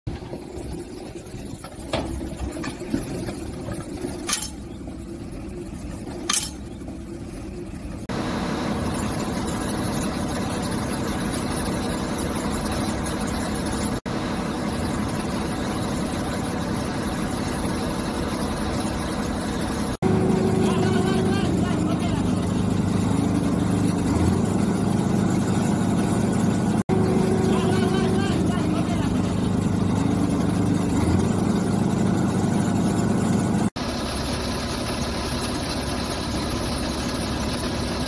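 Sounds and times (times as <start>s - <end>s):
diesel engine running: 0.1s - 38.0s.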